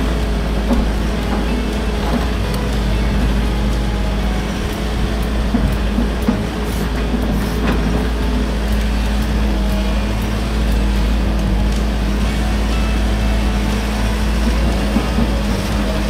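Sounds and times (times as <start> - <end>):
diesel engine running: 0.0 - 16.0
hydraulics working: 0.0 - 16.0.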